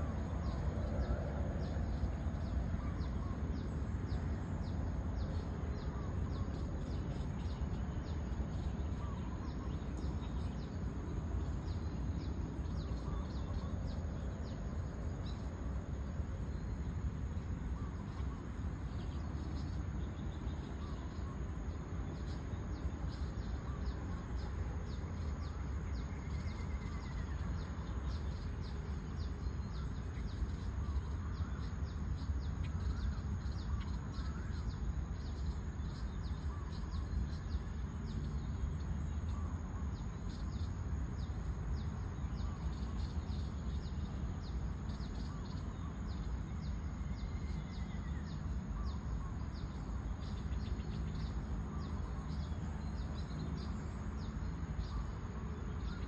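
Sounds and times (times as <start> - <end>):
bird calls and chirps: 0.0 - 56.0
steady low rumble: 0.0 - 56.0.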